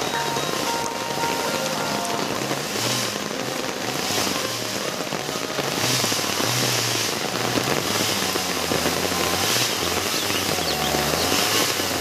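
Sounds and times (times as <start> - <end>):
heavy rain hissing: 0.0 - 12.0
motorcycle engine at low revs: 1.7 - 12.0.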